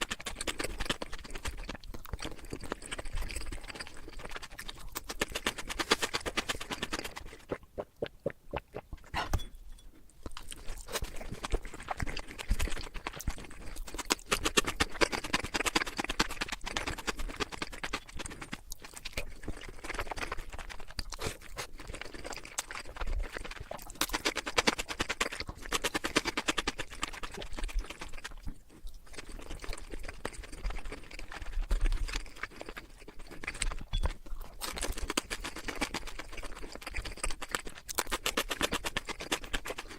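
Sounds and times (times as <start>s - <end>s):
crunchy food chewing: 0.0s - 39.9s.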